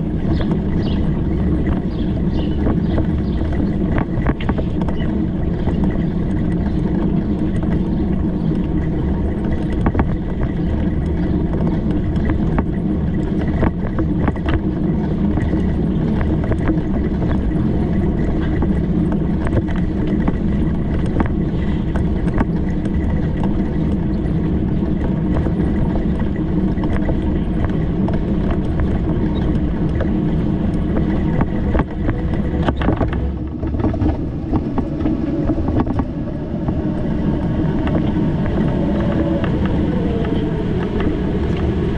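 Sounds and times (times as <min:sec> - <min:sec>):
small rattles and knocks: 0:00.0 - 0:41.7
bicycle riding rumble: 0:00.0 - 0:41.9.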